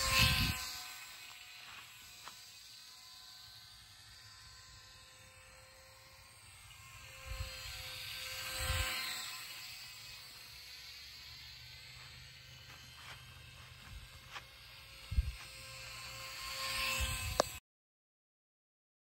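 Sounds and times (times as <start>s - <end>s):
small electric motor buzzing: 0.0s - 17.6s.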